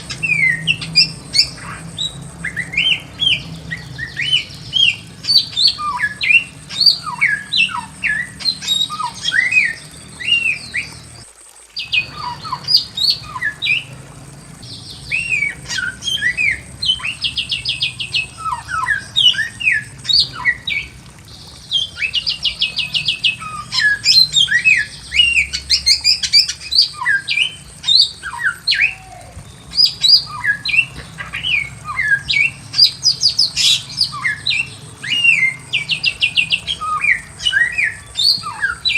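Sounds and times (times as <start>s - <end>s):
bird singing whistled notes: 0.0s - 11.2s, 11.8s - 14.0s, 14.6s - 38.9s.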